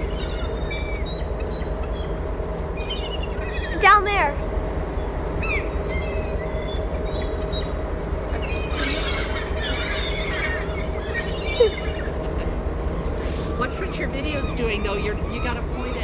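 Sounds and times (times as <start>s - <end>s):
ferry engine drone: 0.0s - 16.0s
seagulls calling: 0.0s - 16.0s.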